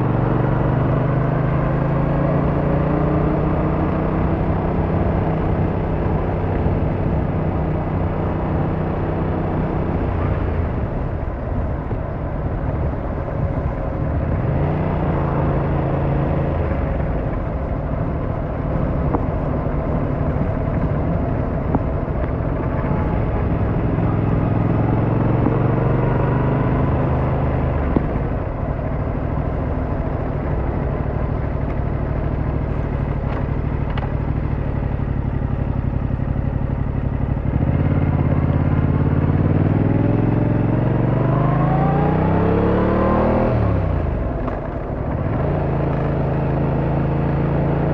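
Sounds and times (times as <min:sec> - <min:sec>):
motorcycle engine revving: 0:00.0 - 0:11.2, 0:13.3 - 0:47.9
wind and road noise: 0:00.0 - 0:47.9.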